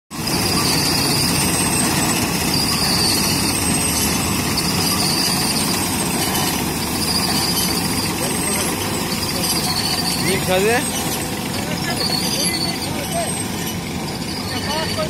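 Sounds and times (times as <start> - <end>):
diesel engine running: 0.1 - 15.0.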